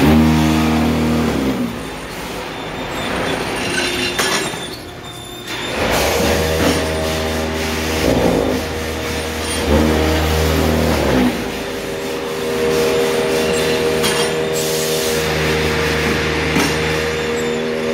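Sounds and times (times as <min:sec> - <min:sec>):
machine mechanical hum: 0:00.0 - 0:17.9.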